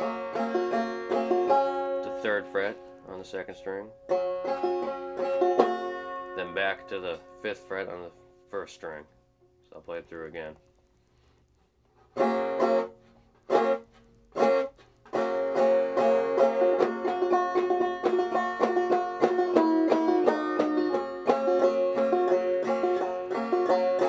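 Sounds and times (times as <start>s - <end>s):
banjo picked melody: 0.0s - 9.1s, 11.9s - 24.0s
banjo strums ringing: 0.0s - 9.1s, 12.0s - 24.0s.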